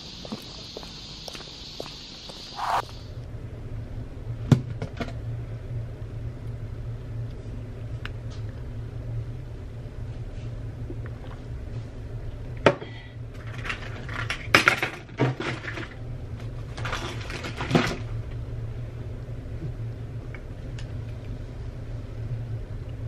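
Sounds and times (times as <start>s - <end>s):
steady low hum: 0.0s - 14.9s, 15.6s - 23.0s.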